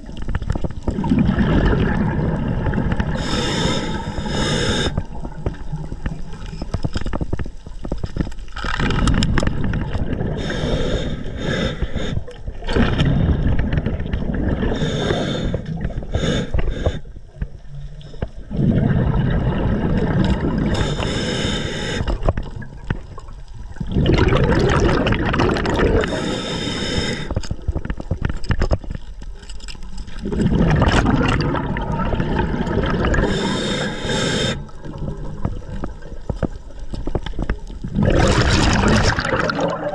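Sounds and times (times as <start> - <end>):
underwater bubbling and rumbling: 0.0 - 39.9.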